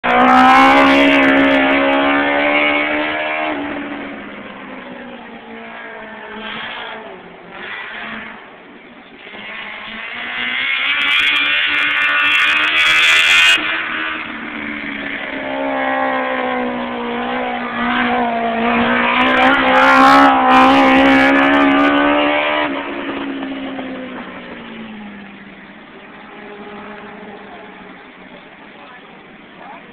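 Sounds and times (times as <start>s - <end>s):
race cars passing at high revs: 0.0s - 29.9s.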